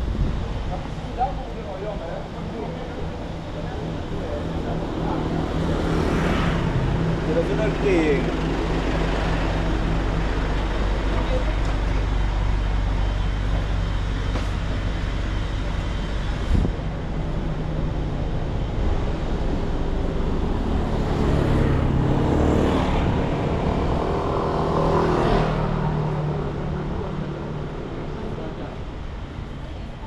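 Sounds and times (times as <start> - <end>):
vehicle engines in traffic: 0.0 - 30.0.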